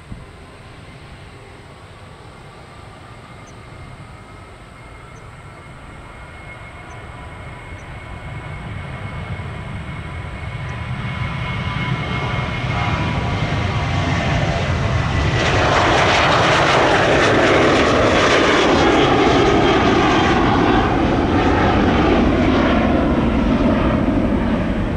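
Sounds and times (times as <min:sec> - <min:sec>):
jet airliner engines: 0:00.0 - 0:24.9.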